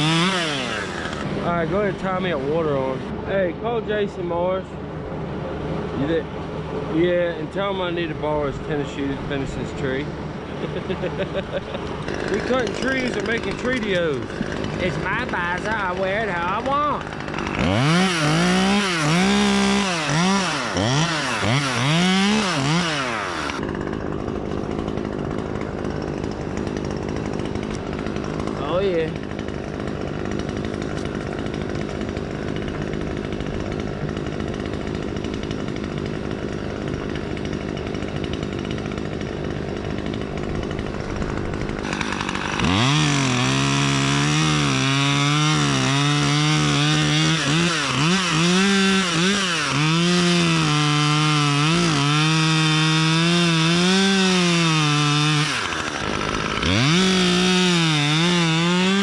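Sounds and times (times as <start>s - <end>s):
chainsaw cutting wood: 0.0s - 4.6s, 5.4s - 59.0s
engine hum: 0.0s - 59.0s.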